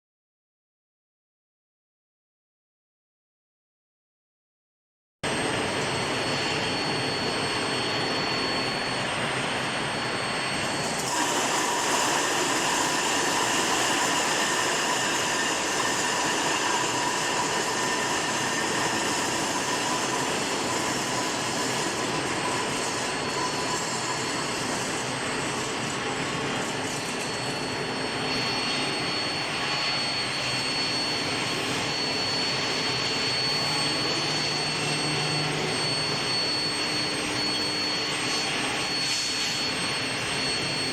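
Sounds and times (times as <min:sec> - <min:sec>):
thin high whine: 0:05.3 - 0:40.9.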